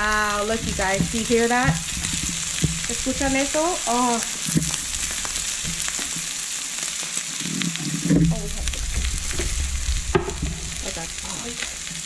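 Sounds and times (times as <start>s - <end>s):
fat popping and spattering: 0.0s - 12.0s
meat sizzling in a skillet: 0.0s - 12.0s.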